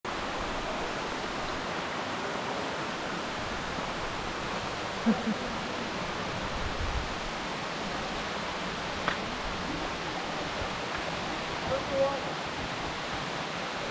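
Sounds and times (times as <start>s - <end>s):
waterfall rushing: 0.1s - 13.9s.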